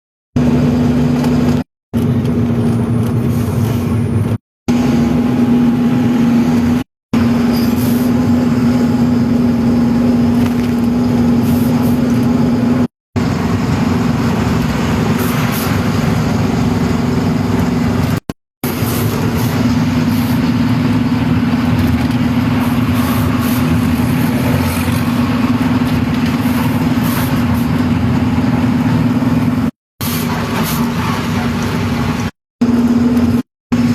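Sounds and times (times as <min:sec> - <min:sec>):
heavy truck engine humming: 0:00.4 - 0:33.9.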